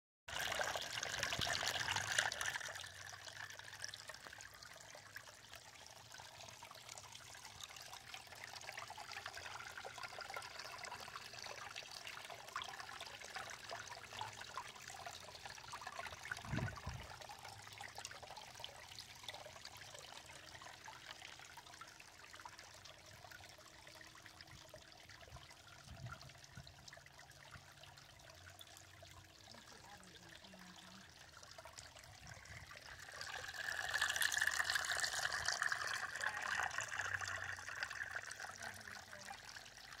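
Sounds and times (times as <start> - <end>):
bubbling pool: 0.3 - 40.0
water trickling down fountain: 0.3 - 40.0.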